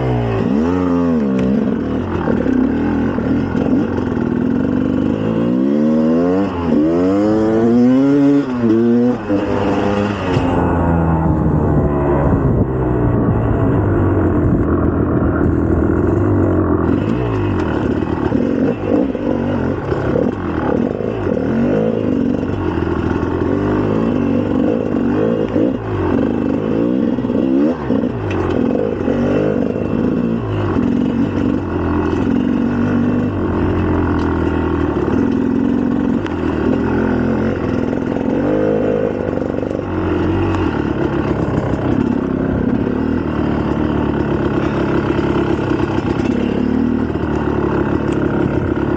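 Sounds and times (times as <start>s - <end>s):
two-stroke engine revving: 0.0s - 48.9s.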